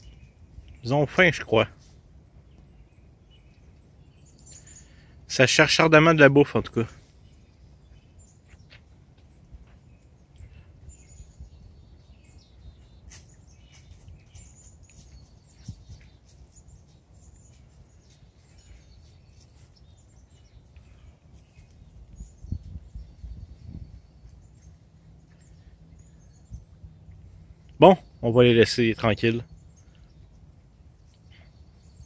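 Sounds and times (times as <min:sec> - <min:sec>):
faint songbird chirps: 0:00.0 - 0:32.0
low outdoor background noise: 0:00.0 - 0:32.0.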